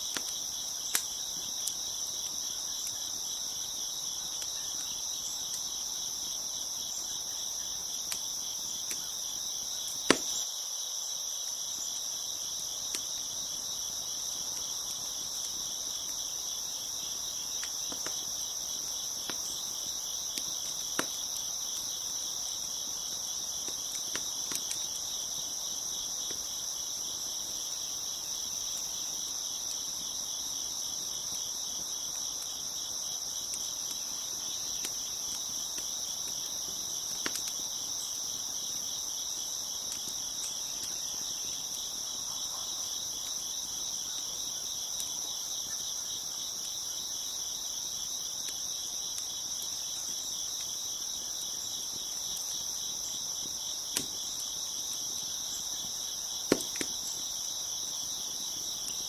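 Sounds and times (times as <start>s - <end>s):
wood fire popping: 0.0s - 10.4s, 12.4s - 42.2s, 48.3s - 59.0s
crickets chirping: 0.0s - 59.0s.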